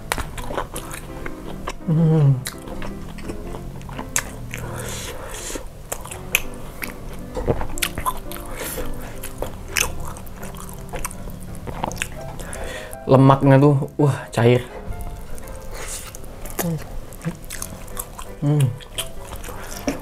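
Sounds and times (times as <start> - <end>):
chewing with mouth clicks: 0.0 - 13.0, 15.0 - 20.0
soft background music: 0.0 - 20.0.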